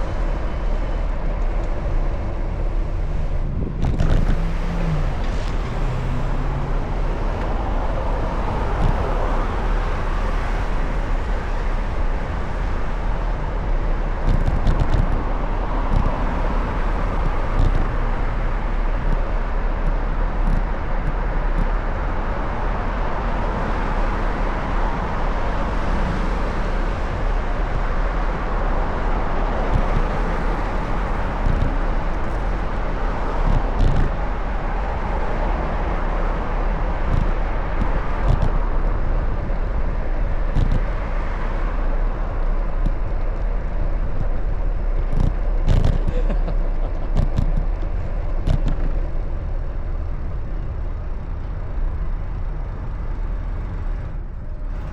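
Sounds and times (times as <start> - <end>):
passing cars: 0.0 - 54.9
wind rumble on microphone: 0.0 - 54.9.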